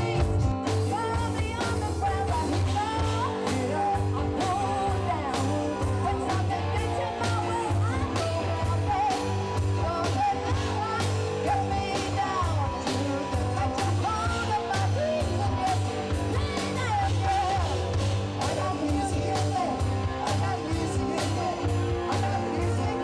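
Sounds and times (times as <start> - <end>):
bass guitar: 0.0 - 23.0
electric guitar: 0.0 - 23.0
person singing: 0.0 - 23.0
steady drum beat: 0.0 - 23.0.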